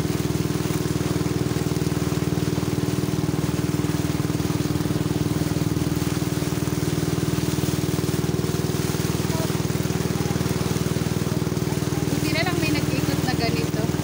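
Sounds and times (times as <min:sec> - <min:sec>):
motorboat engine drone: 0:00.0 - 0:14.0
wind and water rushing: 0:00.0 - 0:14.0.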